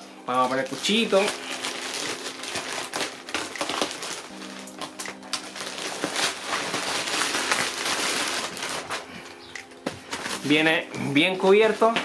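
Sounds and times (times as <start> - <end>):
plastic bag crinkling: 0.3 - 12.0.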